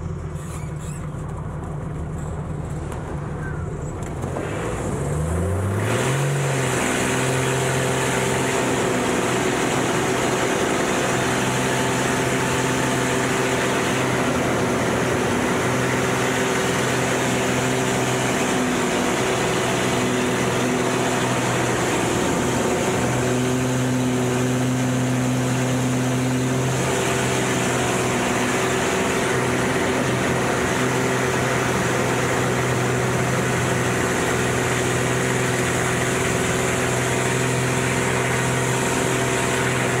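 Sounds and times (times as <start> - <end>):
airplane piston engine and propeller: 0.0 - 40.0
airflow over canopy: 5.8 - 40.0.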